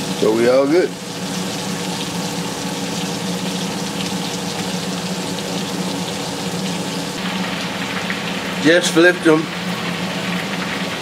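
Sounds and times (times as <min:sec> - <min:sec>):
meat sizzling in grease: 0:00.0 - 0:11.0.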